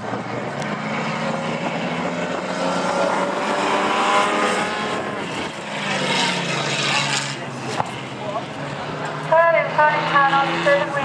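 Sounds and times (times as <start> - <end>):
race car engines at speed: 0.0 - 11.0.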